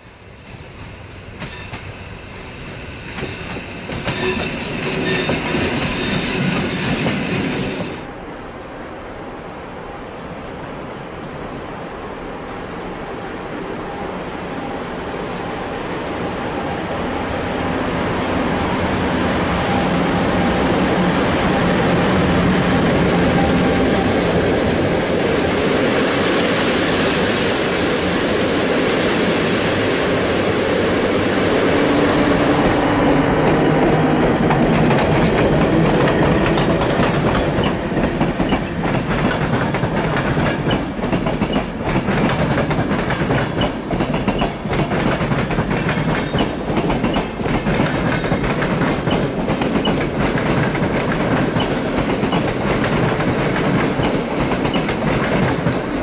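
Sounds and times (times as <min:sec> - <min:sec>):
passenger train rolling past: 0:00.0 - 0:56.0.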